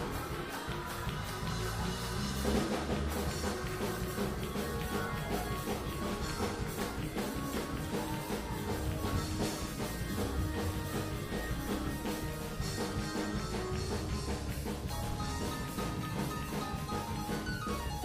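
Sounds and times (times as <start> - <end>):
church band music: 0.0 - 18.0.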